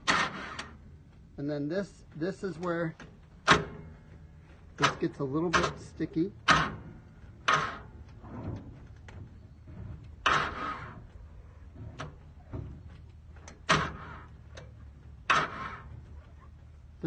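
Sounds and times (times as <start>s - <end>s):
tractor starter cranking: 0.0s - 0.8s, 2.5s - 4.1s, 4.8s - 16.4s.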